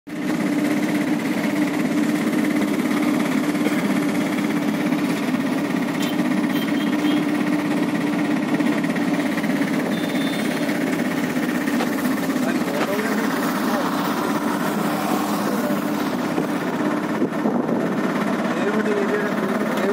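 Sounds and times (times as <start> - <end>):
vehicle engine and road drone: 0.1 - 19.9.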